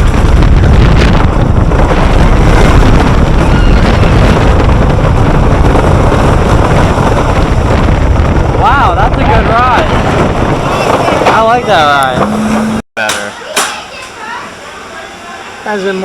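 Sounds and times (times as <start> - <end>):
wind rushing over microphone: 0.0 - 12.8
roller coaster train rumbling on track: 0.0 - 16.0.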